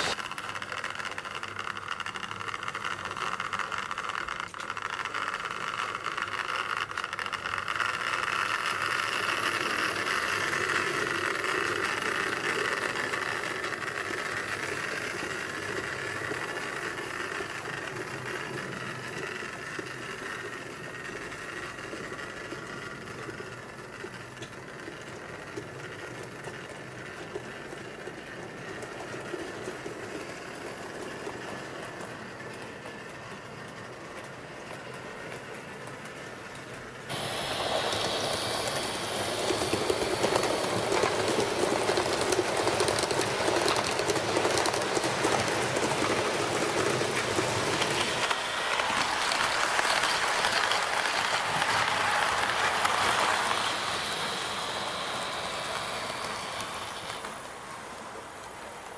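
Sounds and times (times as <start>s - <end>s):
model train whirring on track: 0.0s - 58.9s.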